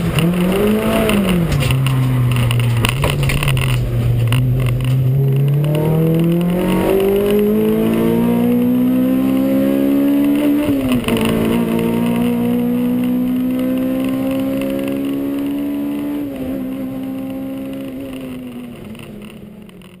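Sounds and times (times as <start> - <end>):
race car engine accelerating: 0.0 - 19.4
gear change: 0.0 - 20.0.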